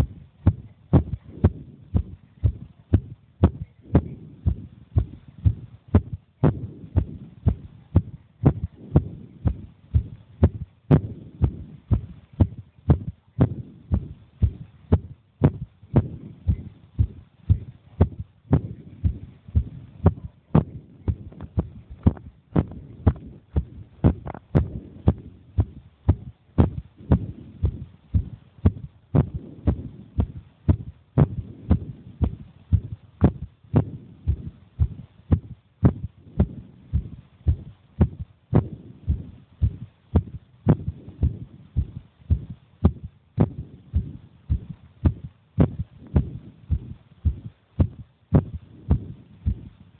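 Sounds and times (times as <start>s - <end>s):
heartbeat thumps: 0.0s - 49.8s.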